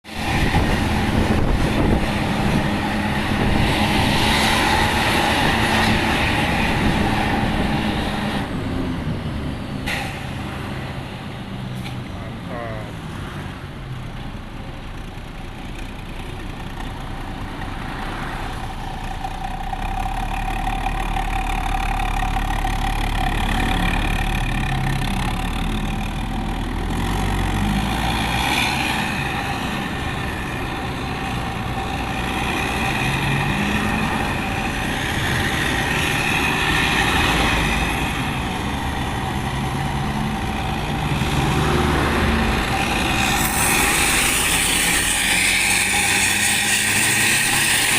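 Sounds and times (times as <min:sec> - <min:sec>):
diesel bus engine growling: 0:00.0 - 0:47.9.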